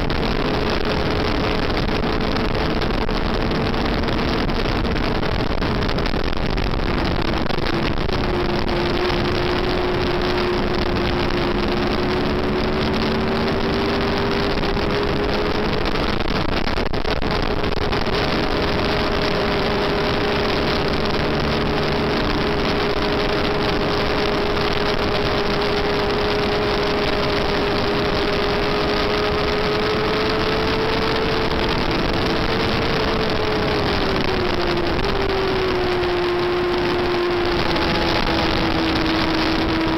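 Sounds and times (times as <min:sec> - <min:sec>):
motorcycle engine running hard: 0:00.0 - 0:39.9
wind rushing over microphone: 0:00.0 - 0:39.9.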